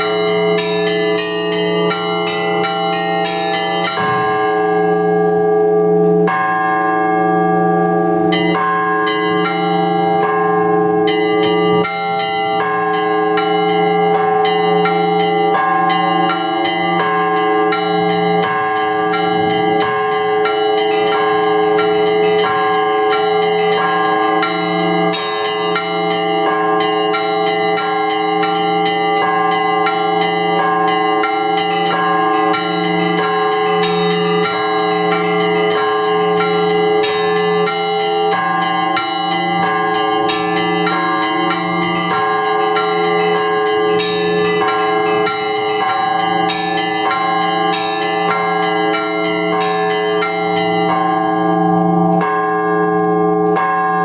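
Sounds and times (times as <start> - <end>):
small bells struck fast: 0.0 - 5.3, 7.9 - 54.0
large bells humming: 0.0 - 54.0.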